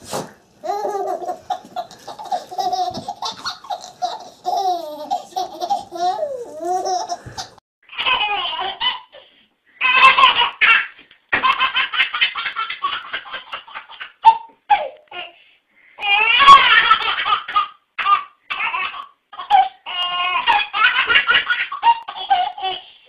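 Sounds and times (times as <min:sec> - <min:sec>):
baby laughing: 0:00.6 - 0:15.3, 0:16.0 - 0:23.0.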